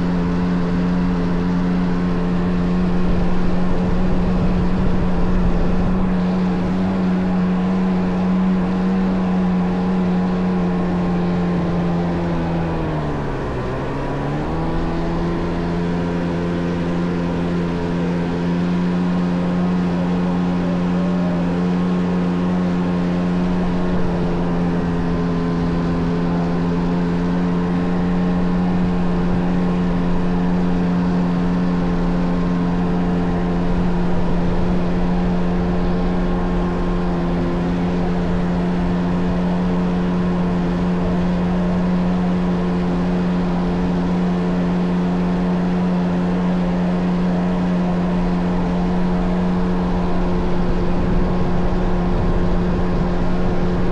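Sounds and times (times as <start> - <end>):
jet ski engine: 0.0 - 53.9.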